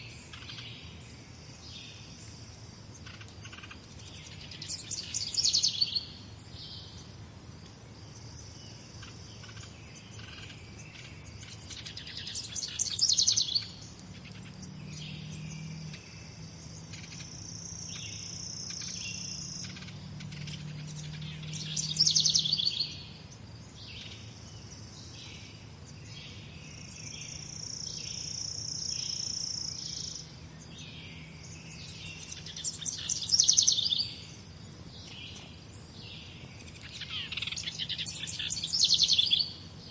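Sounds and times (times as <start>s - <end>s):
bird chirps: 0.0s - 7.2s, 8.1s - 39.9s
songbirds singing: 0.0s - 39.9s.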